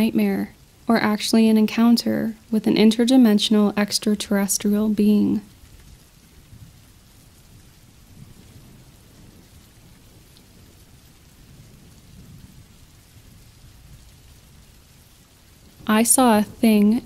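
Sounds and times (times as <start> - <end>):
steady rain: 0.0 - 17.0
thunder rumbles: 0.0 - 17.0.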